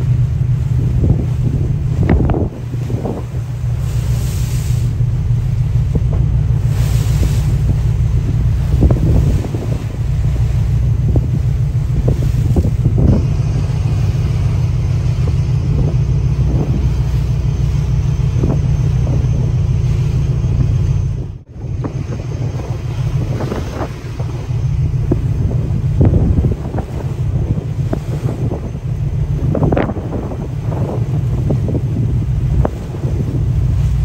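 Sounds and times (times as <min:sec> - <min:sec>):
boat engine rumble: 0:00.0 - 0:34.0
water slapping: 0:00.0 - 0:34.0
wind buffeting microphone: 0:00.0 - 0:34.0.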